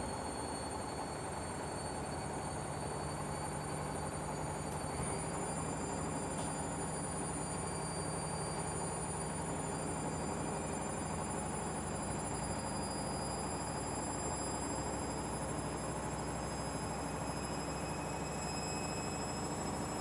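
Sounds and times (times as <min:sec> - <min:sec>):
high motor whines: 0:00.0 - 0:20.0.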